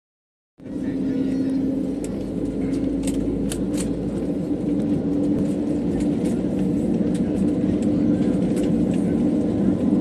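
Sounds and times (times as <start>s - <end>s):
airliner engines droning: 0.6s - 10.0s.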